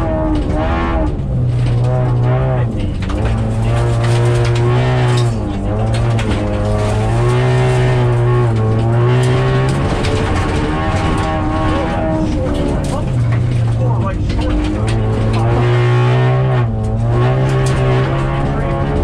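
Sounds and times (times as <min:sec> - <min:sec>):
car engine revving: 0:00.0 - 0:19.0
road and tyre noise: 0:00.0 - 0:19.0.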